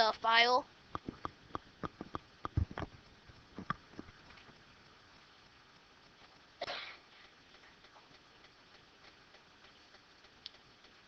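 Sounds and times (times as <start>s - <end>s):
room hiss: 0.0s - 11.0s.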